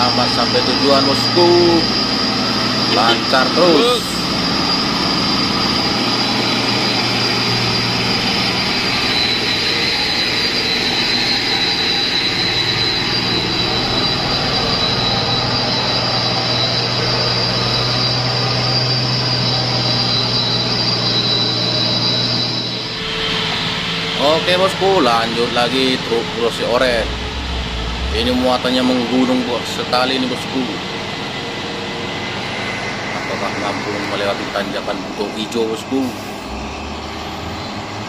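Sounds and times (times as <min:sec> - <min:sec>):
diesel truck engine running: 0:00.0 - 0:38.0
steady high whine: 0:00.0 - 0:38.0.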